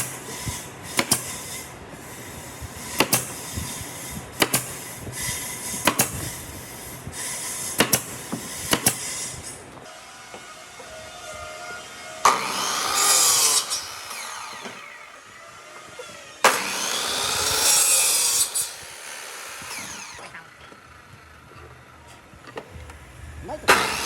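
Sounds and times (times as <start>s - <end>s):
power tool cutting wood: 0.0s - 21.7s, 23.7s - 24.0s.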